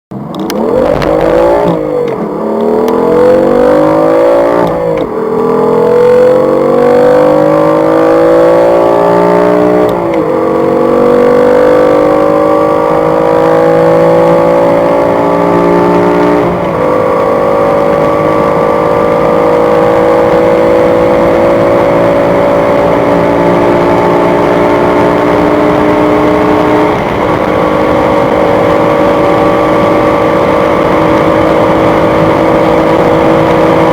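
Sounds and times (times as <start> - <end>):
car engine accelerating through gears: 0.1 - 33.9.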